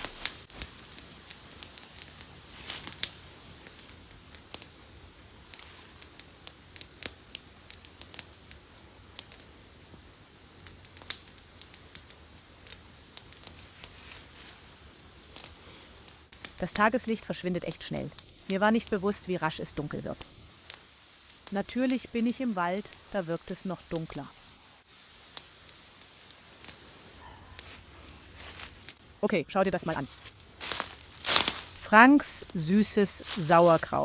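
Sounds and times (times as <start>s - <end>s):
campfire crackling: 0.0s - 34.0s
faint steady hiss: 0.0s - 34.0s.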